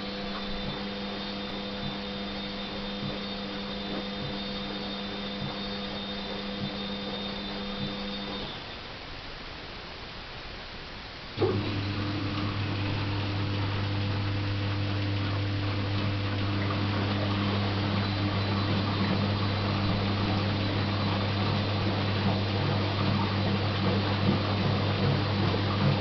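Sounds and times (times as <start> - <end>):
washing machine hum: 0.0 - 9.0, 11.3 - 26.0
mechanical washing noise: 0.0 - 9.8, 11.3 - 26.0.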